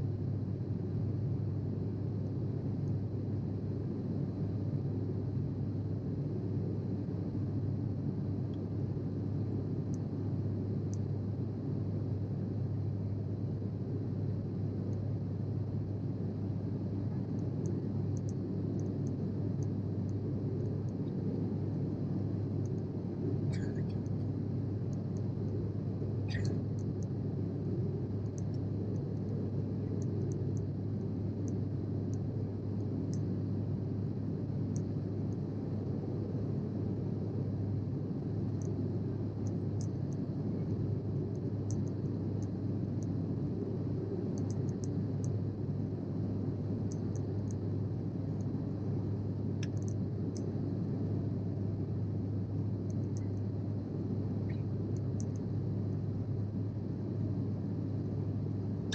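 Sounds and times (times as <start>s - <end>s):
jet engine cabin drone: 0.0s - 58.9s
low hum: 0.0s - 58.9s.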